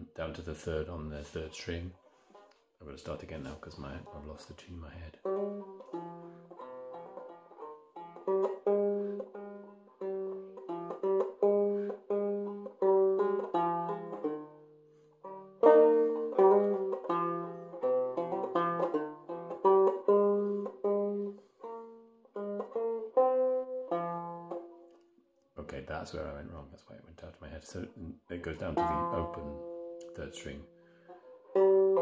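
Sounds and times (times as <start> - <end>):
banjo playing slow melody: 0.0 - 26.8, 27.5 - 32.0.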